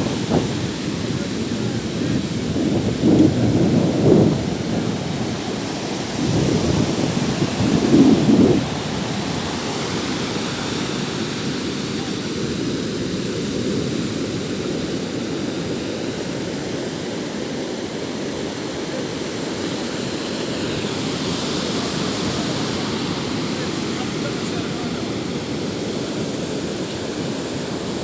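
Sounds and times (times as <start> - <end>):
sea waves washing: 0.0 - 28.0.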